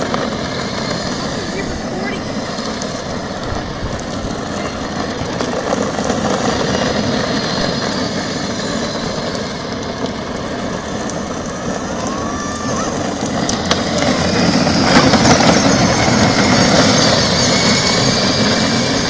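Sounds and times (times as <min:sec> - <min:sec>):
electric motors running: 0:00.0 - 0:19.0
plastic wheels rolling on concrete: 0:00.0 - 0:19.0.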